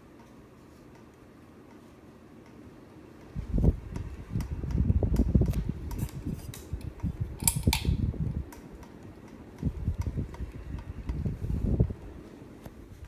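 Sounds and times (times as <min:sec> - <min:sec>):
ceiling fan running: 0:00.0 - 0:13.0.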